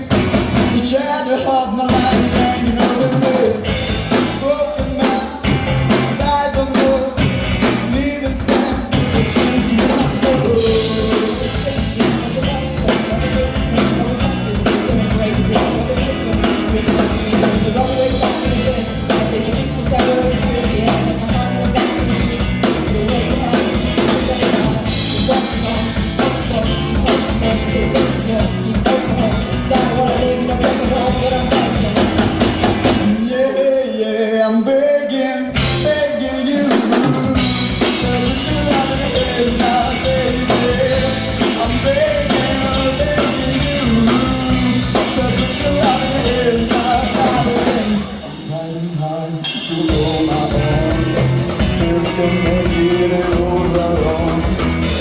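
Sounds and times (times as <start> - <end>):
instrumental rock band music: 0.0 - 55.0.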